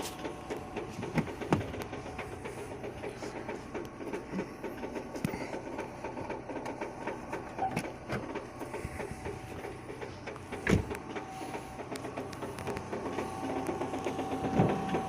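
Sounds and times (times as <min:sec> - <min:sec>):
car engine idling with ticking knock: 0:00.0 - 0:15.0.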